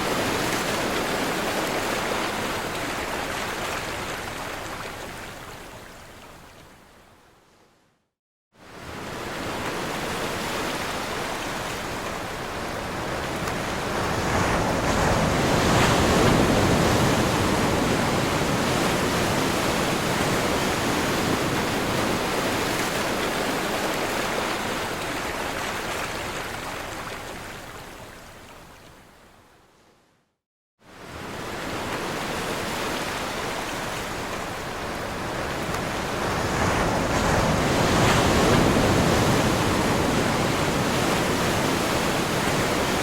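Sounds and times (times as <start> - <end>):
ocean waves breaking on shore: 0.0 - 6.1, 8.6 - 28.4, 30.9 - 43.0.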